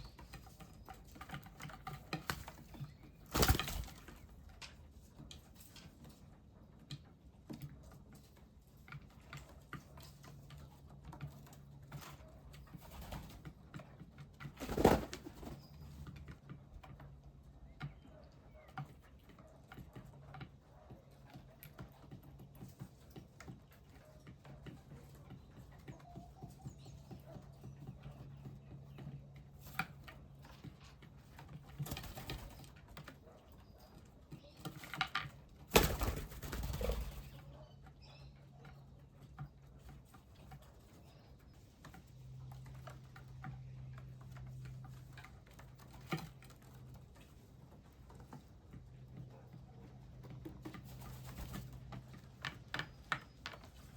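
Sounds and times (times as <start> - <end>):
birds tapping and clicking: 0.0 - 53.9.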